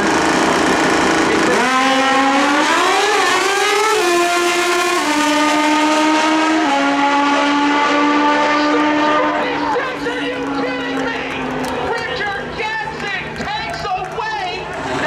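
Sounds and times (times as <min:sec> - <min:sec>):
motorcycle engine at full throttle: 0:00.0 - 0:12.6.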